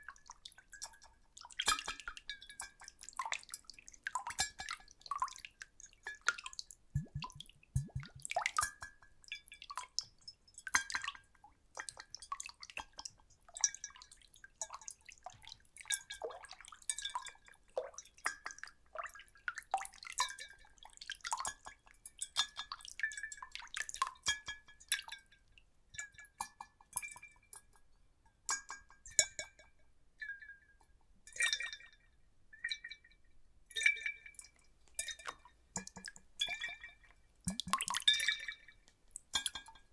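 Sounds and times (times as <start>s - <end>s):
water sloshing in glass bottles: 0.0s - 25.3s, 31.3s - 39.9s.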